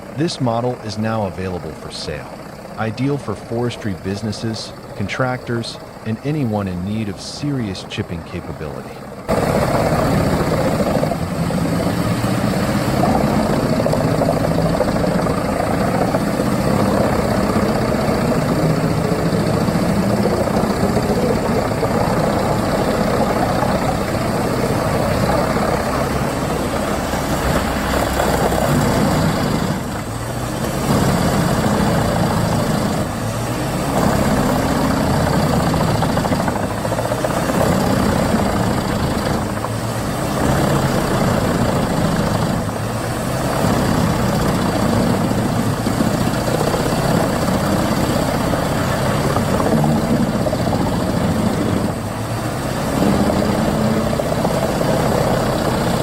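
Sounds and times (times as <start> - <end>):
wood chipper running: 0.0 - 4.1, 9.0 - 56.0.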